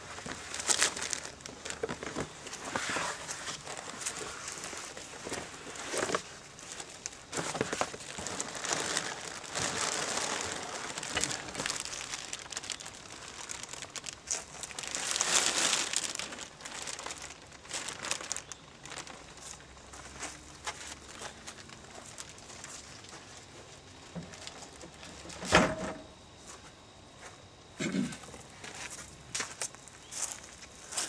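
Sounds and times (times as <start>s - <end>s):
plastic wrap crinkling: 0.0s - 25.4s.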